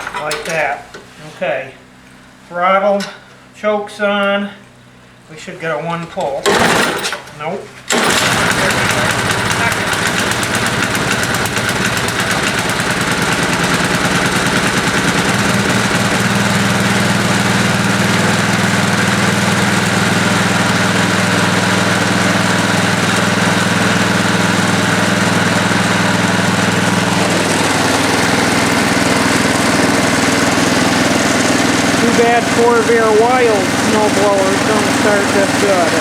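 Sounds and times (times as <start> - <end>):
snow blower engine running: 6.4 - 7.3, 7.9 - 36.0.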